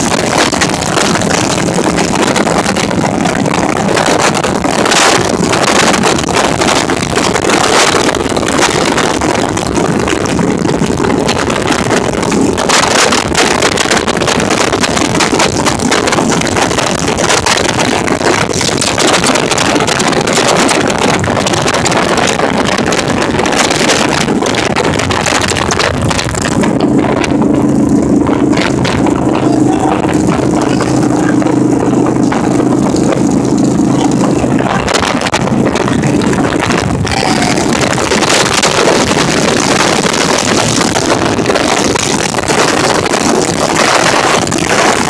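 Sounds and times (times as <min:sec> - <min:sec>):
motorcycle engine running: 0:00.0 - 0:45.0
wind rushing over microphone: 0:00.0 - 0:45.0.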